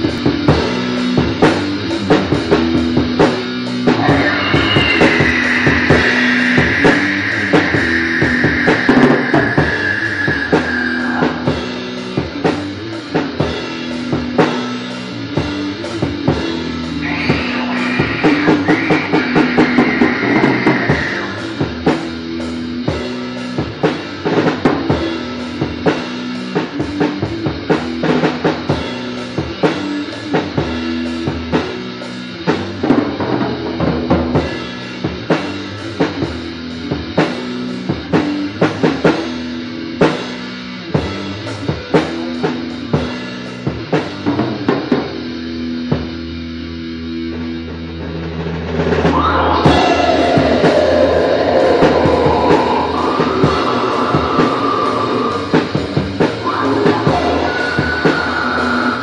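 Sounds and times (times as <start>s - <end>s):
drum kit playing: 0.0s - 59.0s
guitar and bass chords: 0.0s - 59.0s.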